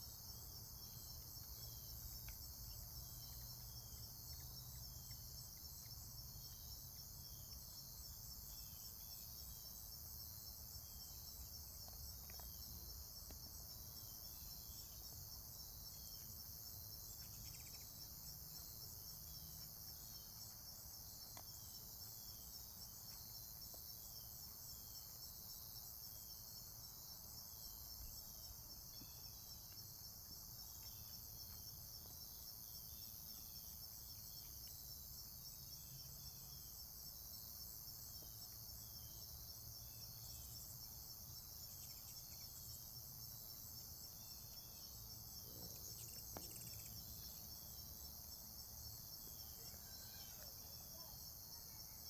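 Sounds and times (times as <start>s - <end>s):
insects trilling: 0.0s - 52.0s
short insect chirps: 0.0s - 52.0s.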